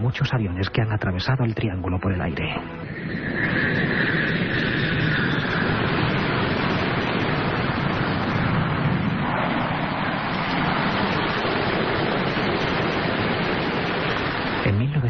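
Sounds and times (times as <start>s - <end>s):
rushing whoosh sound effect: 2.5s - 14.7s.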